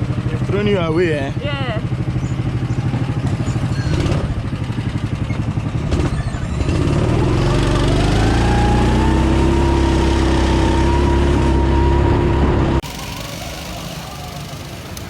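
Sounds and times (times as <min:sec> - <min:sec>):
small engine idling and revving: 0:00.0 - 0:15.0.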